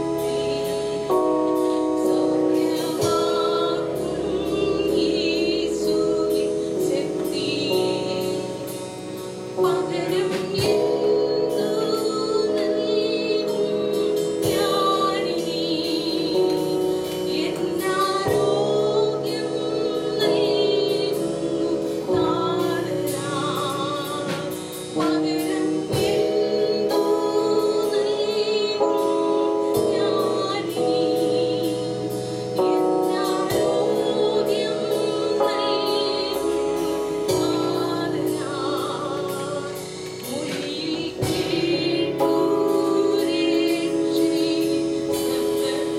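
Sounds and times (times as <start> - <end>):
instrumental accompaniment: 0.0 - 45.9
voices singing worship song: 0.0 - 45.9.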